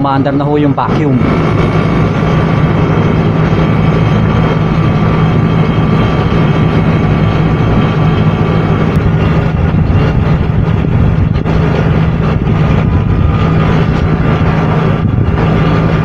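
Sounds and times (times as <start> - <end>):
vacuum pump humming: 0.0 - 16.0.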